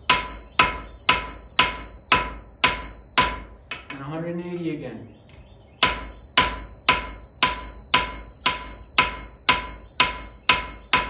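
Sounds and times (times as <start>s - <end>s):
hammer striking iron on anvil: 0.0s - 4.0s, 5.8s - 11.0s
anvil ringing: 0.0s - 4.1s, 5.8s - 11.0s.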